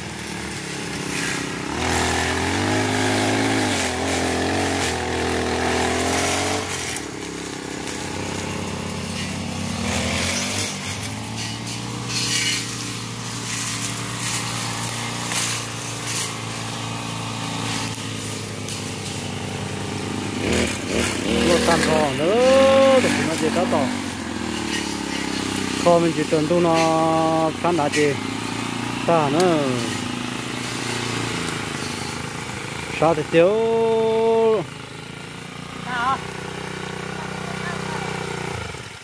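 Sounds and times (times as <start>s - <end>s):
brush cutters revving: 0.0s - 39.0s.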